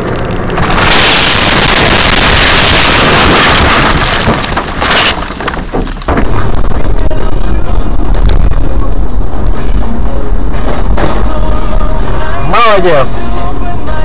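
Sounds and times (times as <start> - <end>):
heavy low rumble: 0.0 - 14.0
wind and road noise: 0.0 - 14.0.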